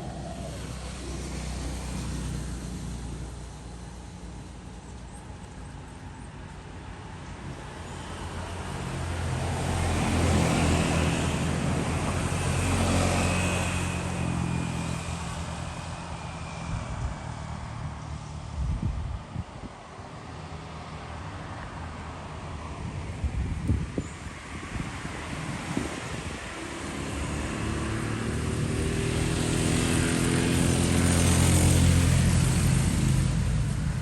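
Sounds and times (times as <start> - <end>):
vehicle passing by: 0.0 - 4.8, 7.6 - 34.0.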